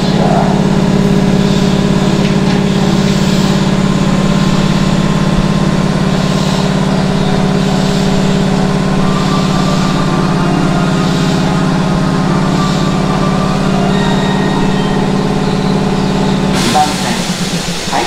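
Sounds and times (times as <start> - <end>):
train air compressor droning: 0.0 - 18.0.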